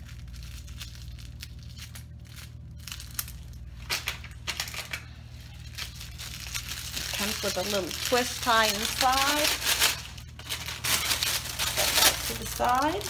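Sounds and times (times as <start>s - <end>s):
plastic bag crinkling: 0.0s - 13.0s
steady low hum: 0.0s - 13.0s.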